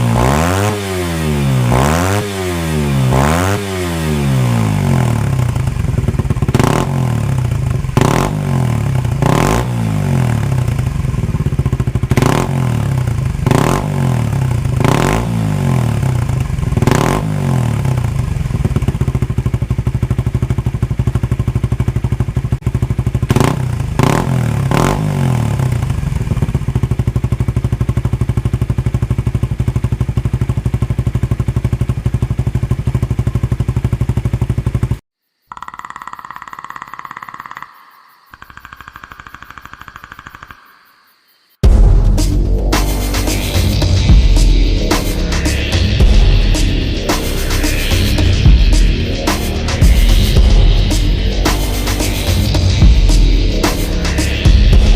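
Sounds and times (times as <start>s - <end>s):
motorcycle engine revving and idling: 0.0s - 37.7s, 38.4s - 40.7s, 41.6s - 54.9s.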